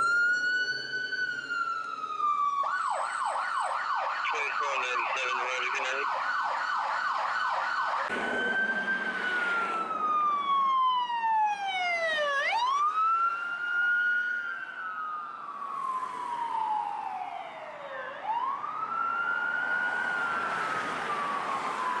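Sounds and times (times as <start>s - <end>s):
ambulance siren wailing: 0.0s - 22.0s
road traffic: 0.0s - 22.0s.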